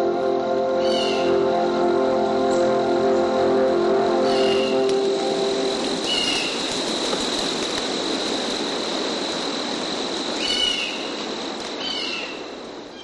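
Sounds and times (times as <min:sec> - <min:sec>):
steady high tone: 0:00.0 - 0:11.2
steady hiss: 0:00.0 - 0:13.0.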